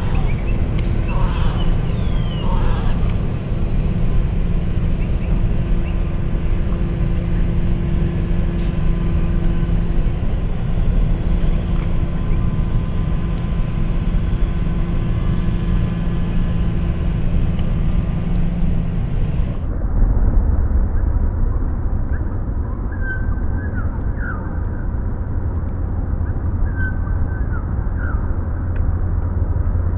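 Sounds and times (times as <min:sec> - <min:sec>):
slowed machinery drone: 0:00.0 - 0:29.9.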